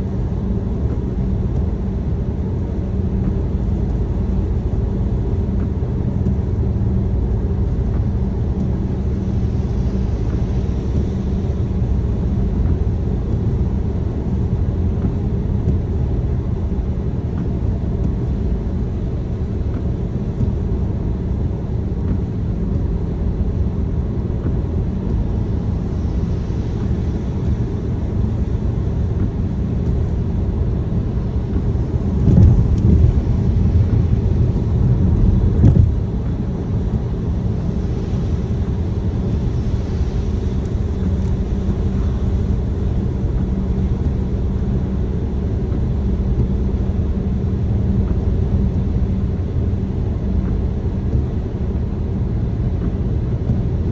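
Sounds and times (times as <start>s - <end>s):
car interior road and engine noise: 0.0s - 53.9s.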